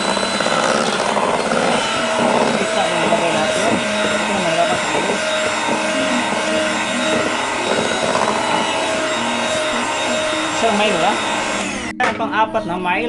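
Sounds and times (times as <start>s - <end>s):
electric hand mixer whipping cream: 0.0s - 12.1s.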